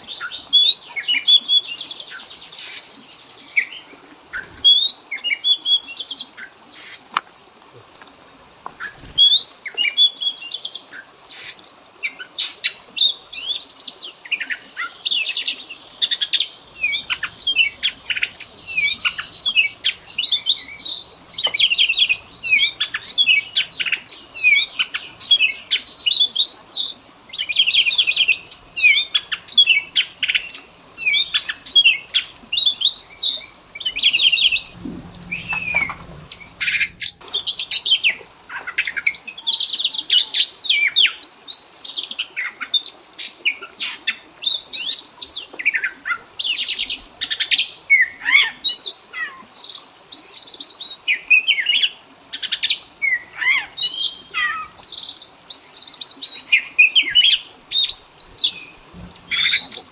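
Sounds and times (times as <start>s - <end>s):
songbird chirping and trilling: 0.0s - 7.5s, 8.6s - 59.9s.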